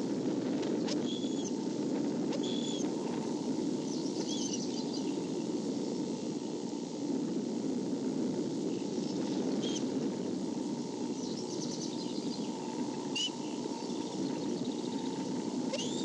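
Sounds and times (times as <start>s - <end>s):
low outdoor background rush: 0.0s - 16.0s.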